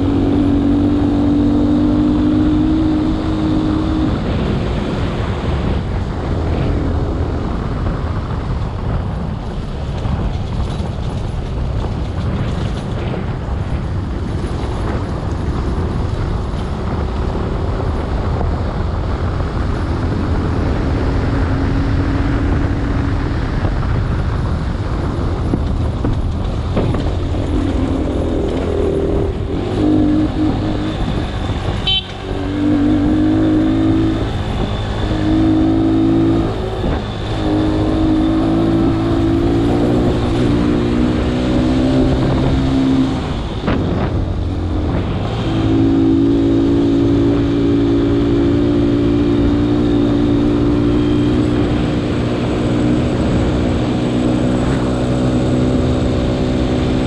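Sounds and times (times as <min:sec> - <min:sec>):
vehicle engine under load: 0:00.0 - 0:57.0.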